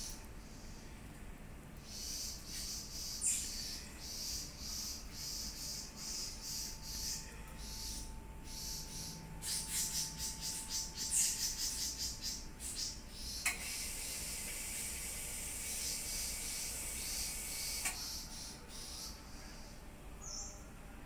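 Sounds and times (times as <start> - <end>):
birds chirping: 1.8 - 20.7.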